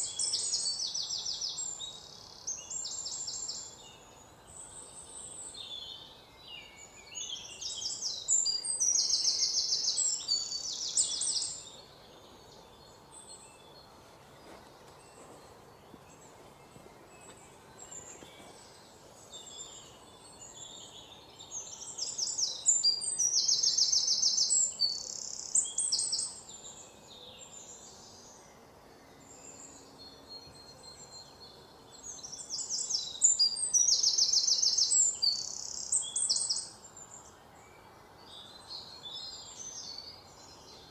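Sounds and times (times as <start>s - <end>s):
low steady background hiss: 0.0s - 40.9s
songbird singing chirps and trills: 0.0s - 40.9s.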